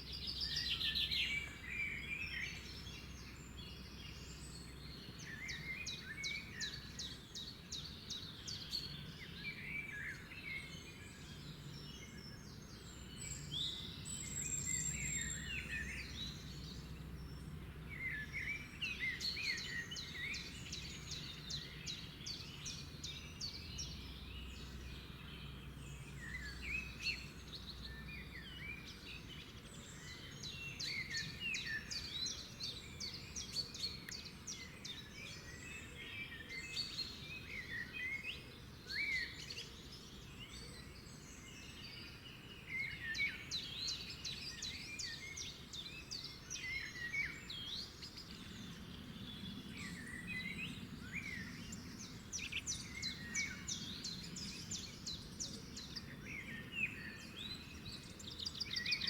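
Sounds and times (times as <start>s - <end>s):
songbirds singing and trilling: 0.0s - 59.0s.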